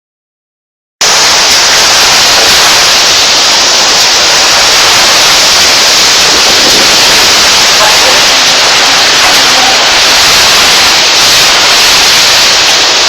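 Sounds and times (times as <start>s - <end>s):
heavy rain pouring: 1.0s - 13.0s.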